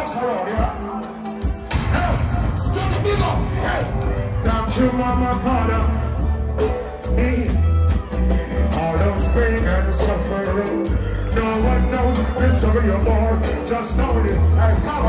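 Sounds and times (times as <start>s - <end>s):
heavy-bass backing track: 0.0s - 15.0s.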